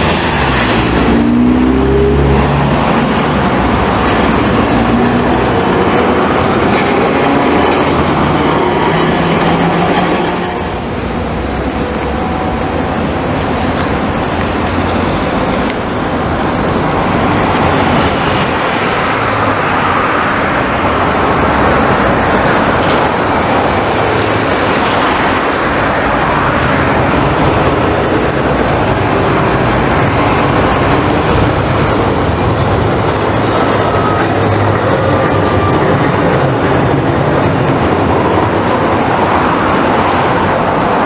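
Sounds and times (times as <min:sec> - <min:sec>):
bus passing: 0:00.0 - 0:41.0
street traffic: 0:00.0 - 0:41.0.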